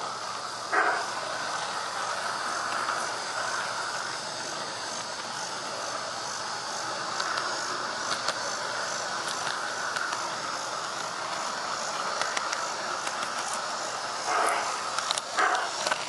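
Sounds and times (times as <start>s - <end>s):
model train running hiss: 0.0s - 16.0s.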